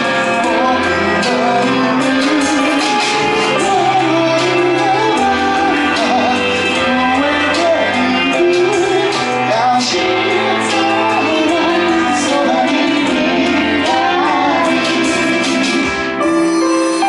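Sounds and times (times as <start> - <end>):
man singing into a microphone: 0.0 - 16.6
instrumental backing music: 0.0 - 17.0.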